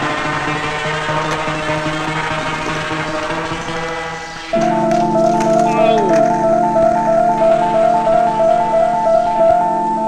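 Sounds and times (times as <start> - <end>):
background music on keys: 0.0 - 10.0.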